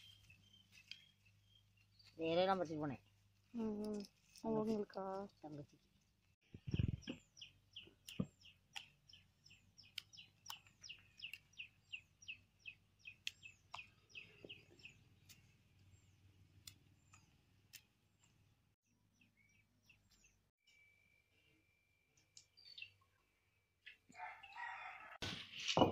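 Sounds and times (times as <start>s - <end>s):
small bird chirping: 0.0s - 4.4s, 5.2s - 24.6s.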